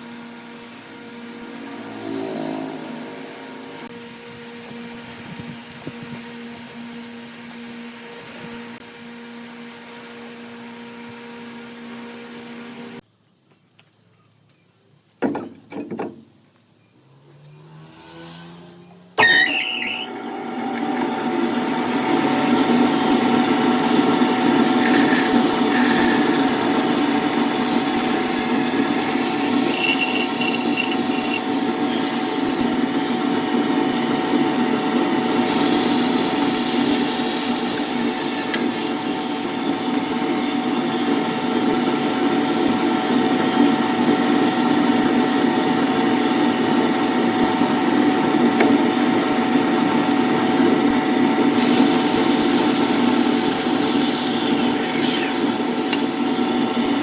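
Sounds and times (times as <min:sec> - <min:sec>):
power tool running on wood: 0:00.0 - 0:08.8, 0:19.2 - 0:57.0
electric motor hum: 0:00.0 - 0:13.0, 0:17.1 - 0:57.0.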